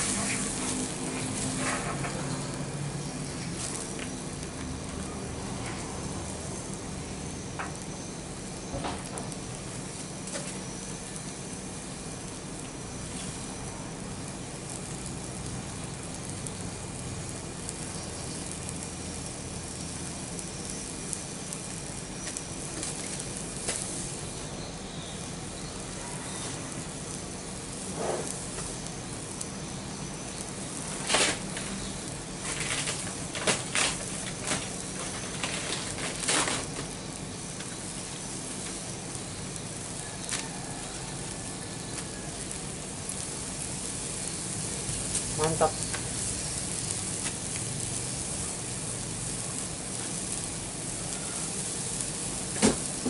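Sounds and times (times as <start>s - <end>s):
fire hissing and crackling: 0.0s - 53.0s.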